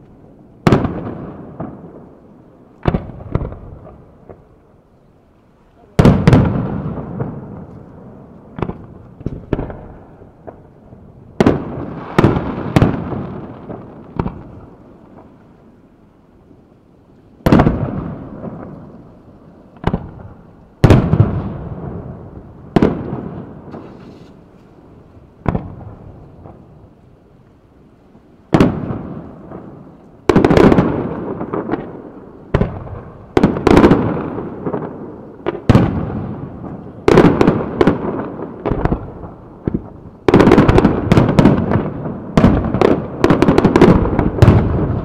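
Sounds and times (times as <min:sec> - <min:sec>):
fireworks banging and rumbling: 0:00.0 - 0:04.7, 0:05.8 - 0:15.5, 0:17.4 - 0:27.0, 0:28.5 - 0:45.0.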